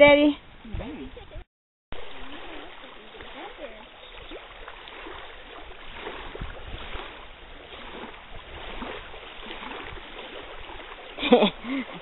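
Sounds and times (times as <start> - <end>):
wind and water hiss: 0.0 - 12.0
small waves lapping on pebbles: 2.0 - 12.0.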